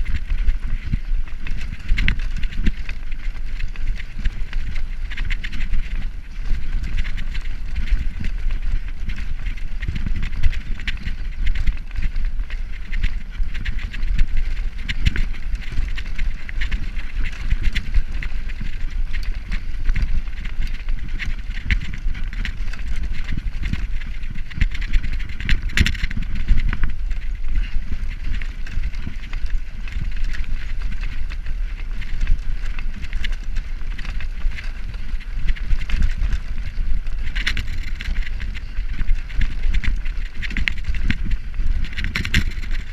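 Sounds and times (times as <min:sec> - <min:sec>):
bike rattling over cobblestones: 0:00.0 - 0:42.9.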